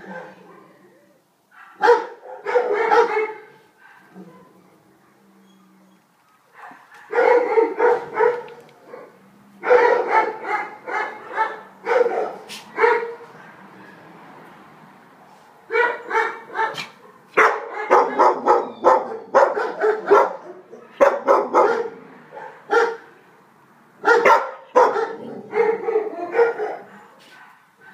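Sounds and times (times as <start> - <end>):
puppy barking: 0.0 - 0.8, 1.5 - 5.2, 6.5 - 14.0, 15.7 - 23.1, 24.0 - 27.9.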